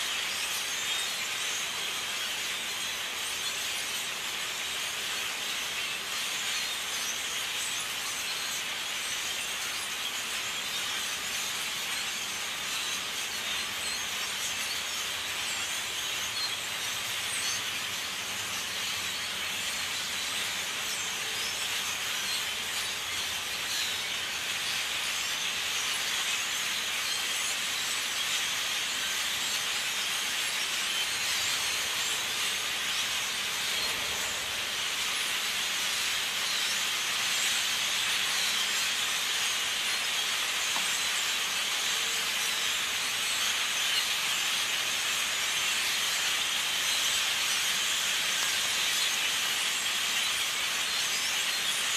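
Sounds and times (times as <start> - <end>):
flock of blackbirds calling: 0.0 - 51.9.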